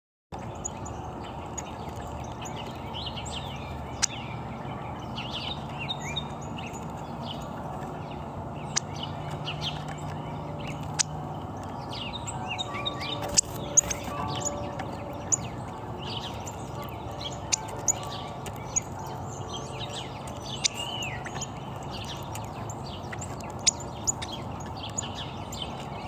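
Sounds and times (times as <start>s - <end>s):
small birds chirping: 0.3s - 26.0s
steady outdoor hiss: 0.4s - 26.0s.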